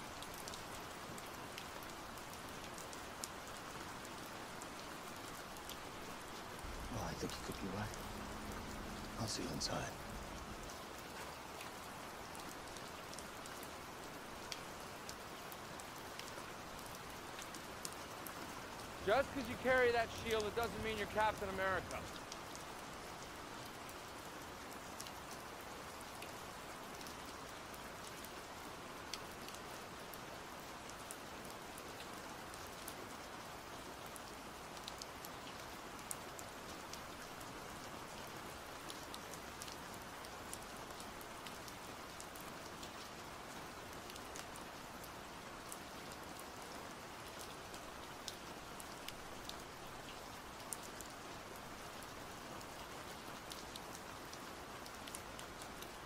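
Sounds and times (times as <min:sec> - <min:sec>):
raindrops ticking: 0:00.0 - 0:28.4, 0:33.9 - 0:56.0
steady rain hiss: 0:00.0 - 0:56.0.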